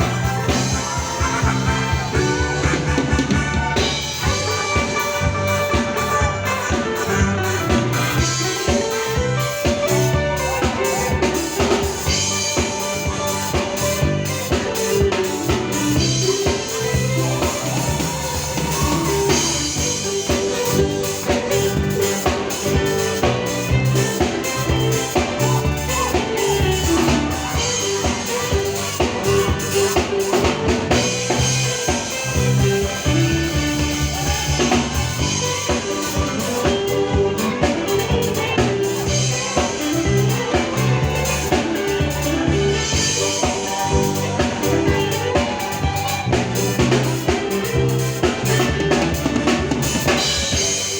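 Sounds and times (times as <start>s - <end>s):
drum kit beat: 0.0s - 50.9s
jive music: 0.0s - 50.9s
walking bass line: 0.0s - 50.9s.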